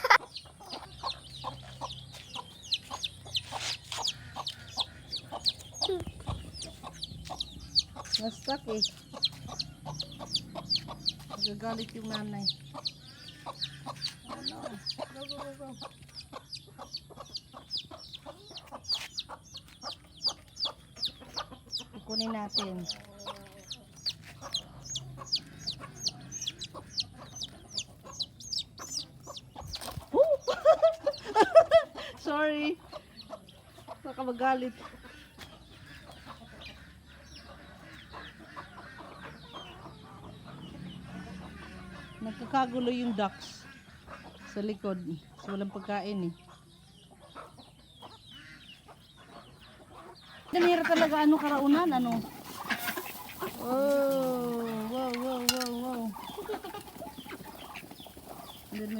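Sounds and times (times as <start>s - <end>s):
chicks peeping: 0.0s - 58.9s
hen clucking: 0.0s - 58.9s.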